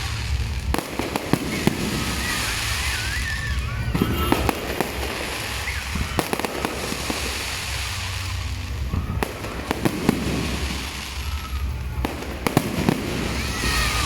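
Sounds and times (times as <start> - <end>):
crackling hiss: 0.0 - 14.0
fireworks bangs and pops: 0.0 - 14.0
steady low rumble: 0.0 - 14.0.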